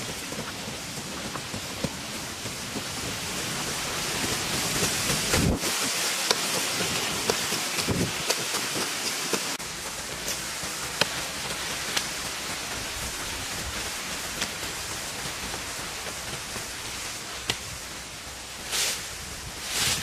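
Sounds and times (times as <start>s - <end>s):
steady hissing: 0.0s - 20.0s.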